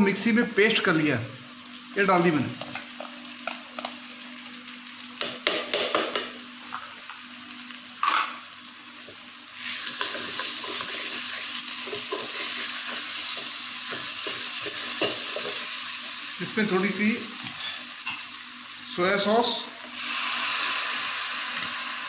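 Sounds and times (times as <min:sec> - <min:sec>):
garlic frying in oil: 0:00.6 - 0:22.0.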